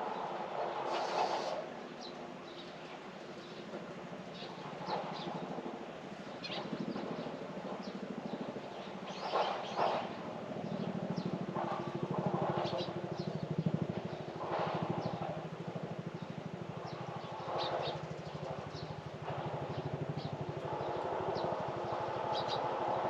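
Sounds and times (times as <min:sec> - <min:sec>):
small engine humming: 0:00.0 - 0:23.0.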